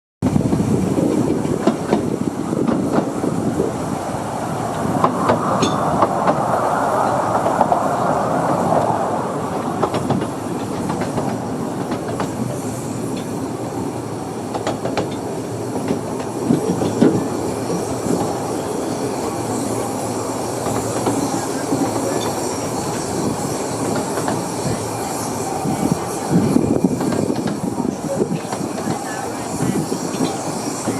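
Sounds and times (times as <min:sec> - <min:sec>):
train rolling on track: 0:00.2 - 0:30.9
wheels clicking over rail joints: 0:04.6 - 0:24.8, 0:25.4 - 0:30.9.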